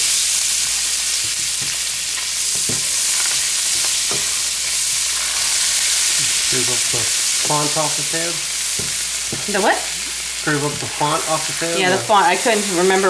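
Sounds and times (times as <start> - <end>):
butter sizzling in a frying pan: 0.0 - 13.0.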